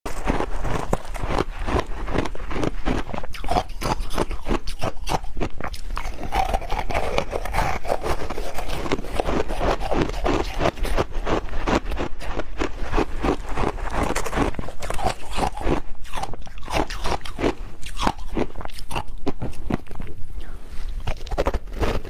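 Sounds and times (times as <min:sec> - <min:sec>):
ice being chewed: 0:00.1 - 0:22.0.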